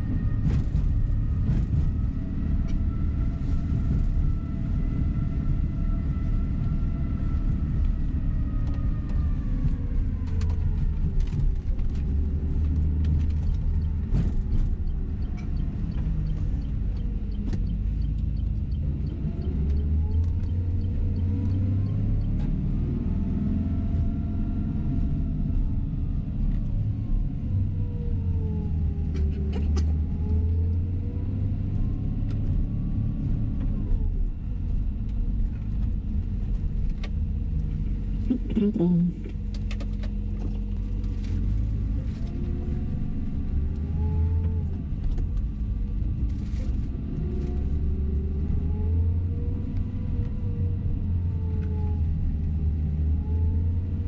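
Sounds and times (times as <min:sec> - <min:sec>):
bus engine and road rumble: 0:00.0 - 0:54.0
engine whine: 0:00.0 - 0:54.0.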